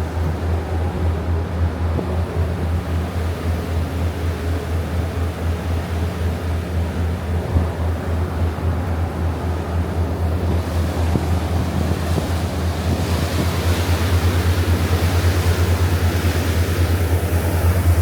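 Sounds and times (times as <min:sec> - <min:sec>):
boat engine droning: 0:00.0 - 0:18.0
rushing water: 0:00.0 - 0:18.0
wind: 0:00.0 - 0:18.0.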